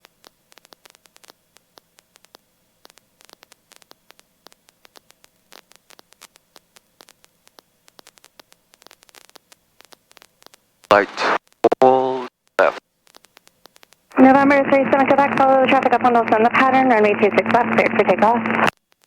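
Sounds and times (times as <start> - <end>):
crackling static clicks: 0.0 - 19.0
faint hiss and electrical hum: 0.0 - 19.0.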